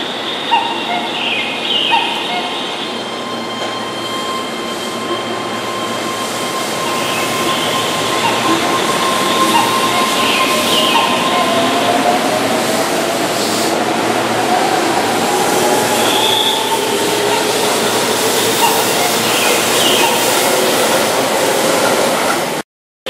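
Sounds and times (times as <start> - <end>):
train wheels rumbling on rail: 0.0 - 22.6.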